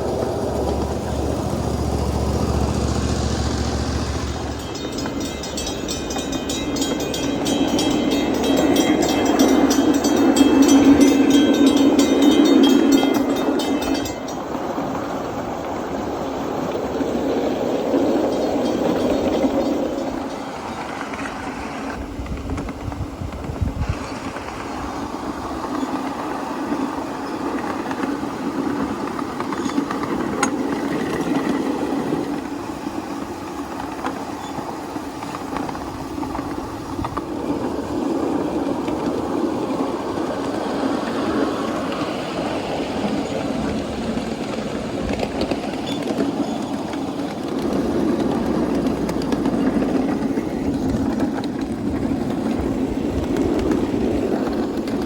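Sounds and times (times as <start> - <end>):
miniature steam train running on track: 0.0 - 55.0.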